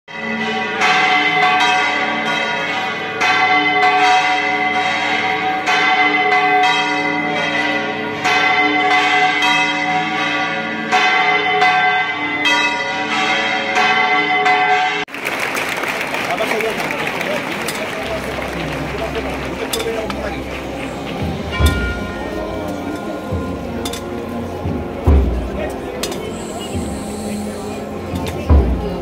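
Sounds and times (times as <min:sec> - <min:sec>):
church bells pealing: 0:00.1 - 0:15.1, 0:16.4 - 0:29.0.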